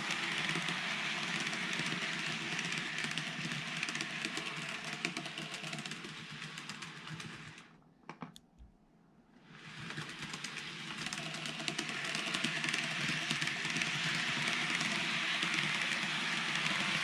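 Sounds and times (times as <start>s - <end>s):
model train wheels and motor rattling: 0.0s - 7.8s, 9.4s - 17.0s.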